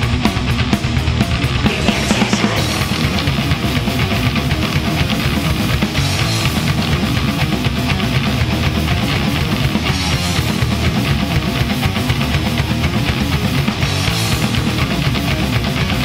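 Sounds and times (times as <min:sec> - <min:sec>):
death metal band playing: 0:00.0 - 0:16.0.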